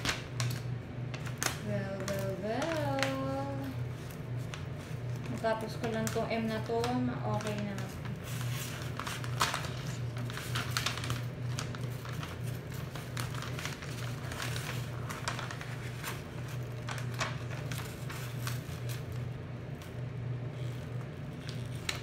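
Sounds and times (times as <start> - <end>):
exhaust fan humming: 0.0 - 22.0
paper rustling and crinkling: 0.0 - 22.0.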